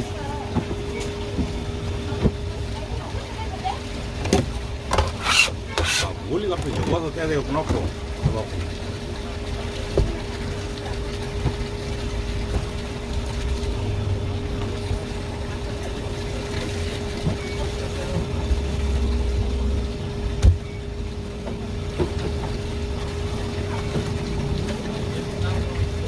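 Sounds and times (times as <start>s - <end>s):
machine hum with low rumble: 0.0s - 26.0s.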